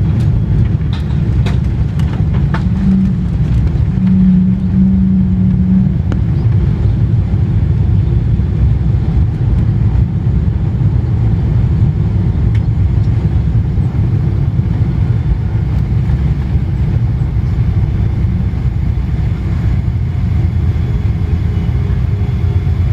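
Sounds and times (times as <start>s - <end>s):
airplane deep rumble: 0.0s - 22.9s
faint hum: 0.0s - 22.9s.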